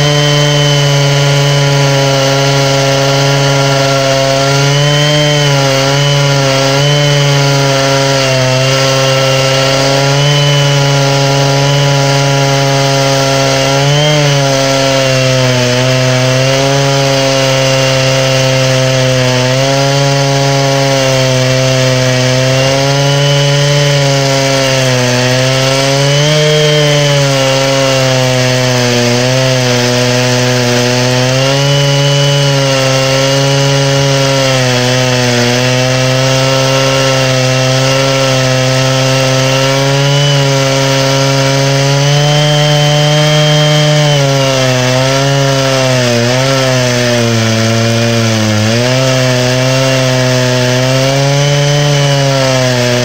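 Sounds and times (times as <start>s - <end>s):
chainsaw ripping a log: 0.0s - 53.0s.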